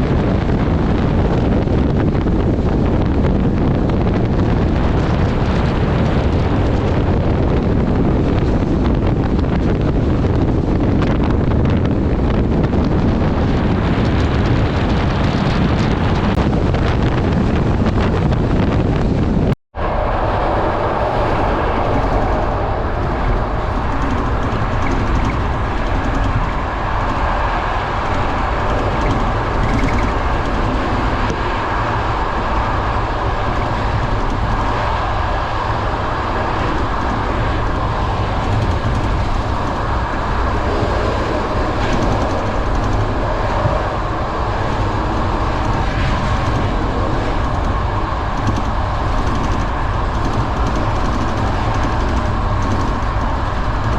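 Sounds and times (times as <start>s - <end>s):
train wheels on rails: 0.0s - 53.9s.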